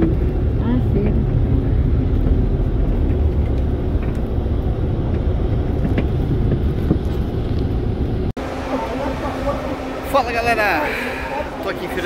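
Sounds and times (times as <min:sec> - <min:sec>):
bus engine rumble inside cabin: 0:00.0 - 0:12.0.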